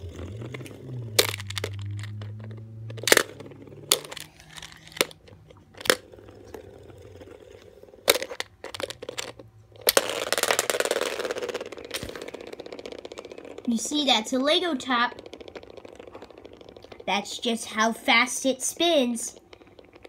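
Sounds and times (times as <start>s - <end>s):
fast continuous rattling: 0.0s - 20.0s
spinning top knocking plastic dish: 0.0s - 20.0s.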